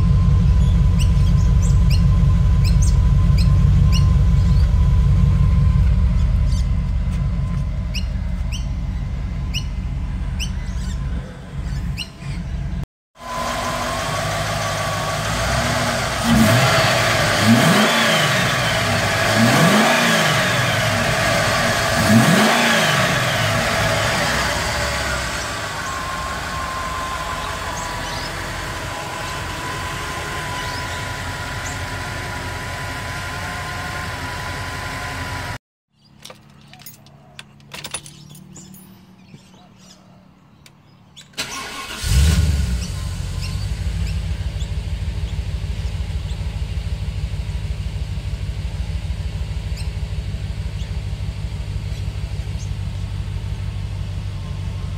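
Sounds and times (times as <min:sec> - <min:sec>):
car engine idling and revving: 0:00.0 - 0:35.6, 0:36.2 - 0:54.9.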